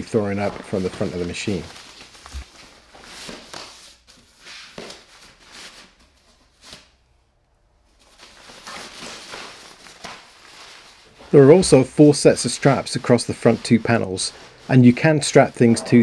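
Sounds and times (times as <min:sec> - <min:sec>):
nylon cover rustling: 0:00.0 - 0:06.9, 0:07.8 - 0:16.0.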